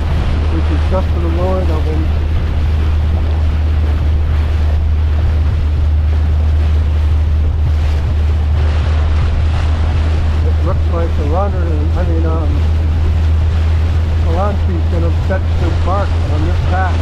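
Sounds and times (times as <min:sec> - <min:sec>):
water splashing and rushing: 0:00.0 - 0:17.0
wind rumbling on microphone: 0:00.0 - 0:17.0.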